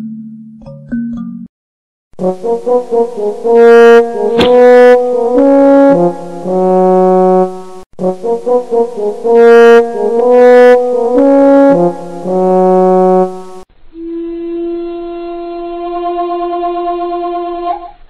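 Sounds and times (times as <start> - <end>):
brass instrument playing slow melody: 2.2 - 17.0.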